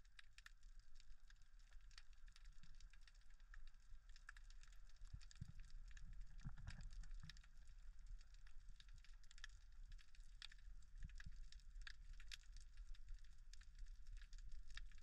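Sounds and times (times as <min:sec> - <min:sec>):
low water rumble: 0:00.0 - 0:15.0
reef crackle clicks: 0:00.0 - 0:15.0.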